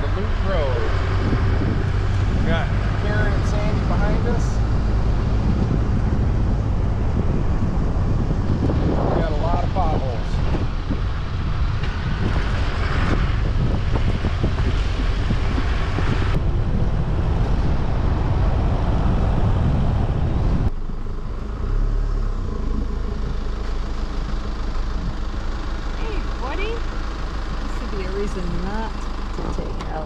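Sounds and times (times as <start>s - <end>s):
truck tyre and road rumble: 0.0s - 30.0s.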